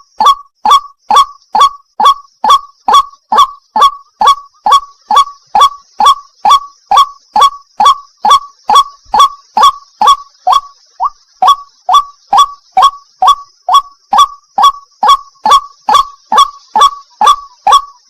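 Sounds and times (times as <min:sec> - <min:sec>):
waterhen calling harsh notes: 0:00.0 - 0:18.0.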